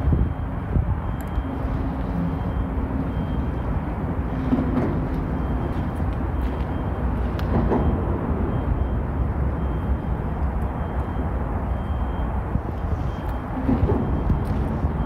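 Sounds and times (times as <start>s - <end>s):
faint engine hum: 0.0s - 15.0s
low rumble of road traffic: 0.0s - 15.0s.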